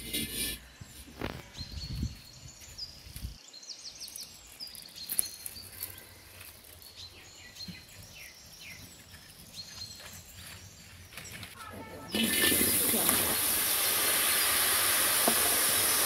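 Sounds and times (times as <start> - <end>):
small birds chirping: 0.6 - 14.6.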